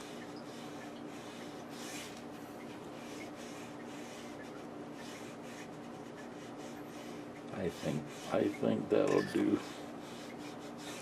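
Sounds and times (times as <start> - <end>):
rubbing and handling noise: 0.0 - 11.0.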